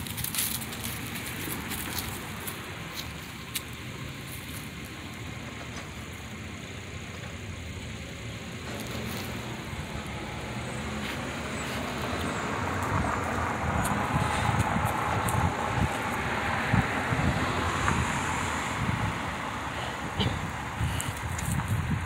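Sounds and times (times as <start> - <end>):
passing cars rushing: 0.0 - 22.0.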